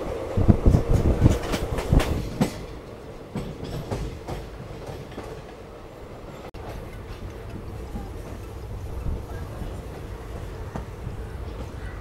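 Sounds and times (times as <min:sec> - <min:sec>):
train wheels clattering over rail joints: 0:00.0 - 0:05.7, 0:06.4 - 0:12.0.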